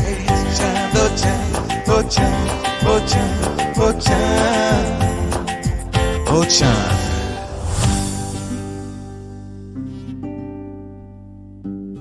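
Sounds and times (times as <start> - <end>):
film song instruments: 0.0 - 10.3.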